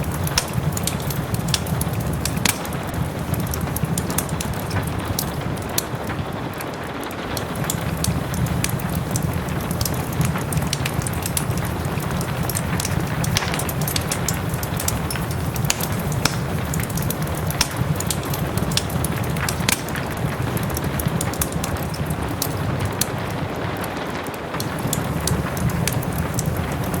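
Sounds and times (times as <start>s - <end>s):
soft rain hiss: 0.0s - 27.0s
wood fire crackling and popping: 0.0s - 27.0s.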